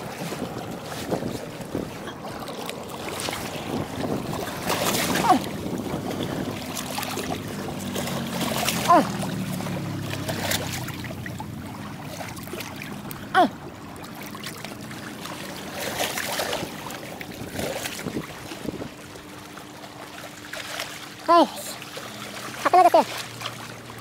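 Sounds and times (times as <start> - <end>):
water lapping among rocks: 0.0 - 24.0.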